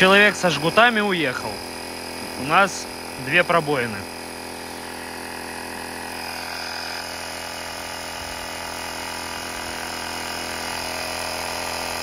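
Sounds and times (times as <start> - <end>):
steady motor hum: 0.0 - 12.0.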